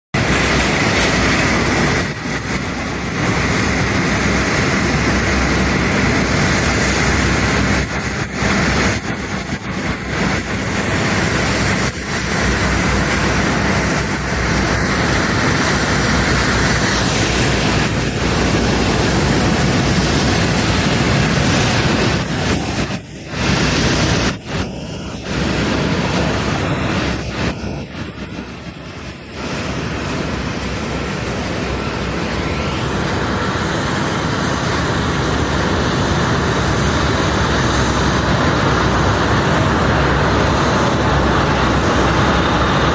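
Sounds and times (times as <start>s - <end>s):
jet aircraft noise: 0.1s - 42.9s.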